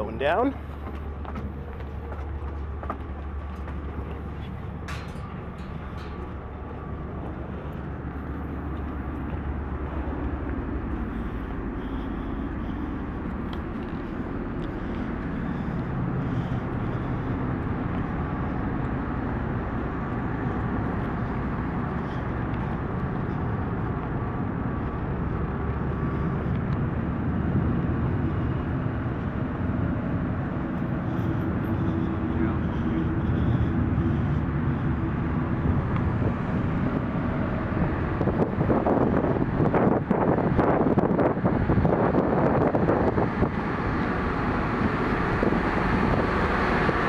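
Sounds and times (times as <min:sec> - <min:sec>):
ship engines rumbling: 0:00.0 - 0:47.0.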